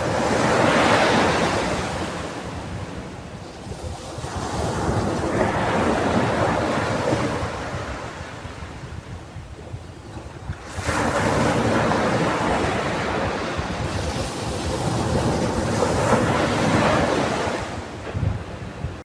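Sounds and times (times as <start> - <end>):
waves crashing on beach: 0.0 - 19.0
wind on microphone: 0.0 - 19.0.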